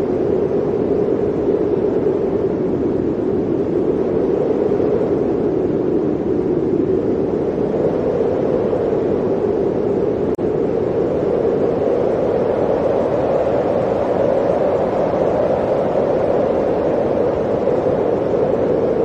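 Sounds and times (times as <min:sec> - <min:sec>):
blizzard wind rushing: 0:00.0 - 0:19.0.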